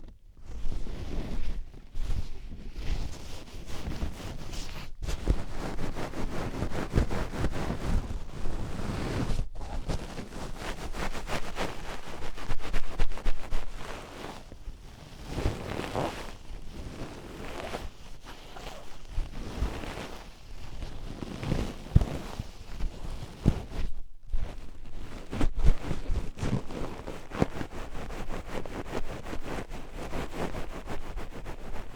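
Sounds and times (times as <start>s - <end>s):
oiled hands rubbing: 0.0s - 31.9s.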